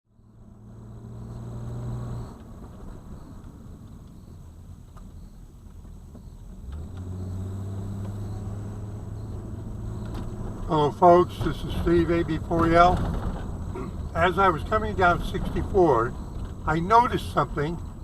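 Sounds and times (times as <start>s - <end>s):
car engine hum: 0.1s - 18.0s
road noise: 0.1s - 18.0s.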